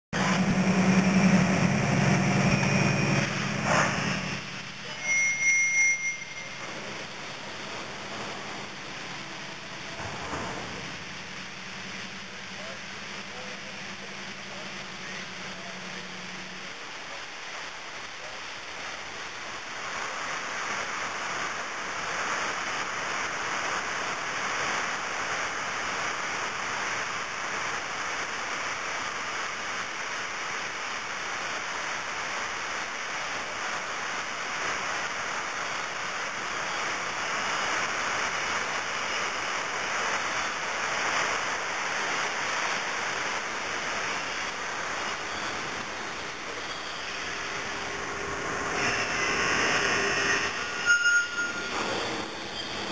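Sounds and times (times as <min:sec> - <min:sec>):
coal pouring out of railcar: 0:00.2 - 0:52.9.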